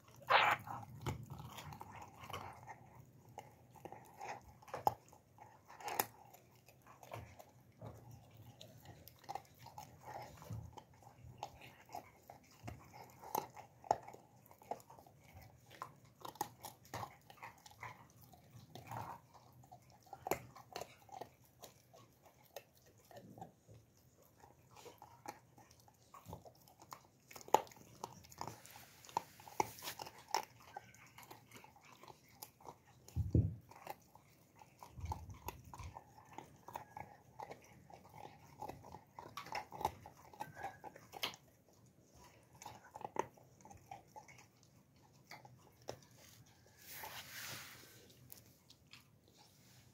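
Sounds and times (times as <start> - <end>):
puppy chewing food: 0.0 - 49.9.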